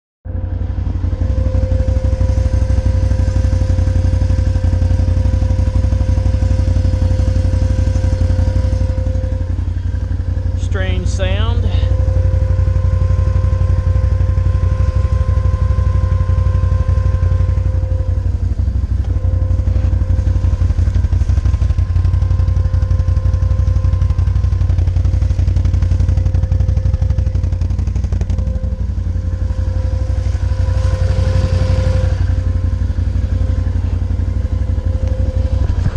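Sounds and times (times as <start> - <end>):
atv engine rumble: 0.2 - 35.9
steady high whine: 0.3 - 35.9.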